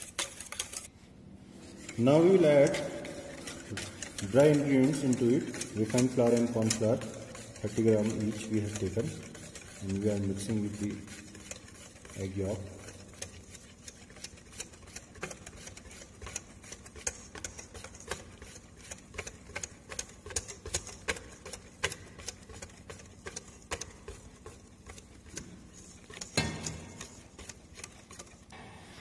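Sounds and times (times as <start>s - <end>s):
utensil stirring batter in metal bowl: 0.0s - 0.9s, 1.6s - 28.6s.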